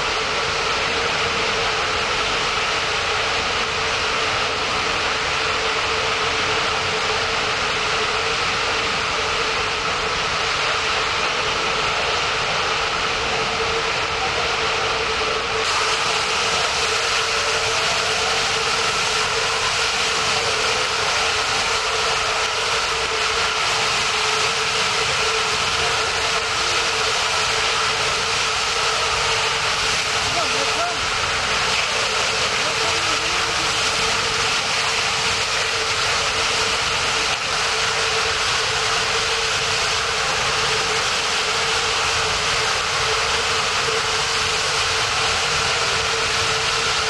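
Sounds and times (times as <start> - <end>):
gas jet rushing hiss: 0.0 - 47.0.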